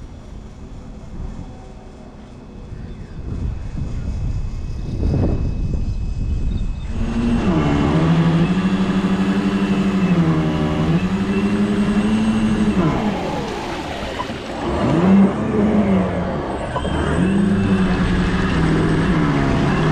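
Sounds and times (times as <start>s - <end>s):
model boat motor running: 0.0s - 19.9s.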